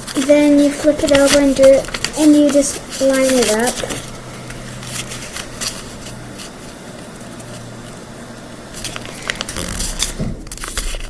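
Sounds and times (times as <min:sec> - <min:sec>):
paper being folded and creased: 0:00.0 - 0:11.0
paper crackles and taps: 0:00.0 - 0:11.0.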